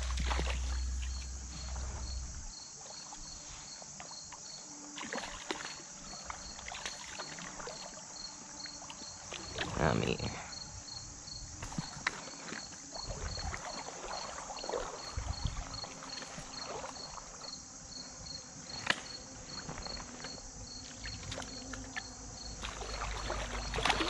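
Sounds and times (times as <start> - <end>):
water sloshing and splashing: 0.0 - 3.4, 4.0 - 10.4, 11.6 - 17.6, 19.6 - 24.0
insects chirping in a pulsing trill: 0.0 - 24.0.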